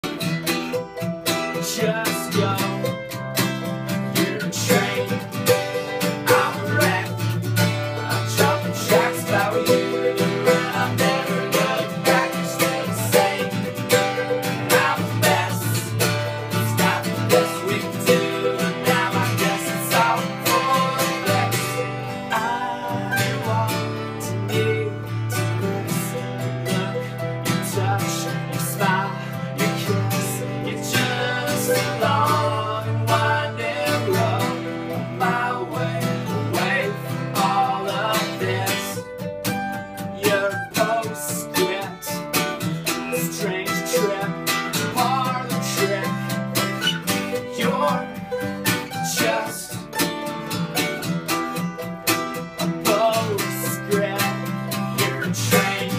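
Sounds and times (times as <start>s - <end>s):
acoustic guitar: 0.0s - 55.9s
mandolin: 0.0s - 55.9s
man singing: 1.3s - 39.1s, 40.0s - 50.1s, 52.6s - 55.9s.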